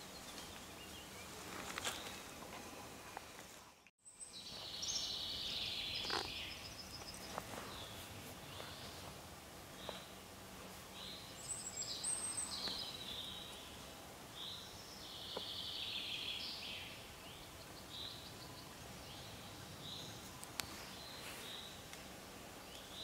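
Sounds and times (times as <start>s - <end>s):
faint background hiss: 0.0s - 23.0s.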